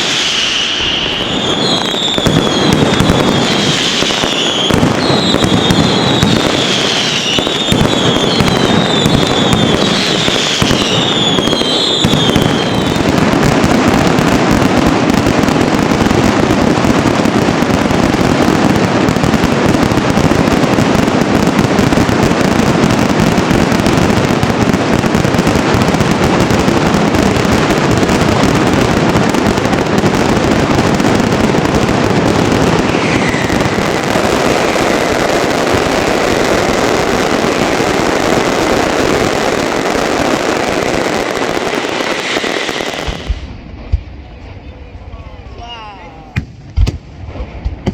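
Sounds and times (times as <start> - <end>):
fireworks crackling bursts: 0.0 - 47.9
whistling fireworks: 0.0 - 47.9.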